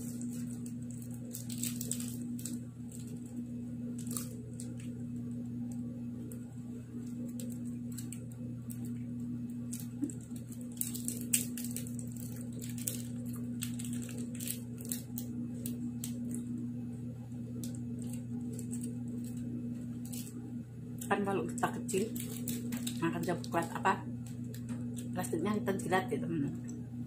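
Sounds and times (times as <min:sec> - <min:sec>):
plastic wrapper crinkling: 0:00.0 - 0:16.7, 0:17.3 - 0:20.5, 0:21.4 - 0:25.4
steady low hum: 0:00.0 - 0:27.0.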